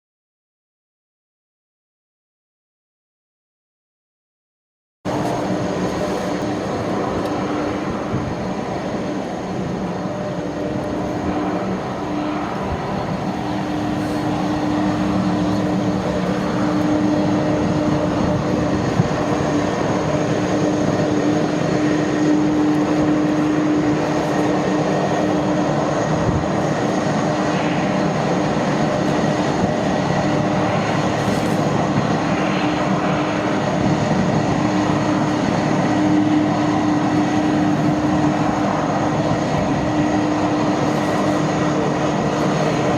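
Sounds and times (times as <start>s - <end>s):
jet engines humming: 5.1s - 42.9s.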